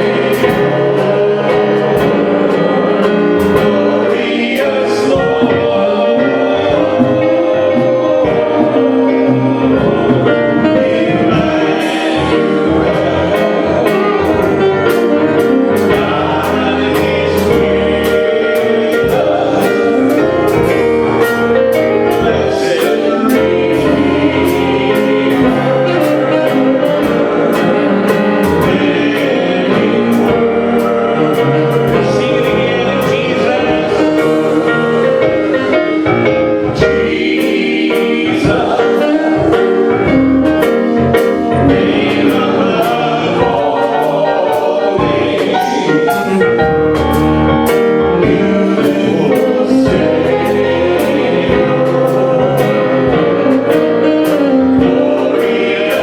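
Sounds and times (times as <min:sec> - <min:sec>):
choir singing: 0:00.0 - 0:56.0
gospel band playing: 0:00.0 - 0:56.0.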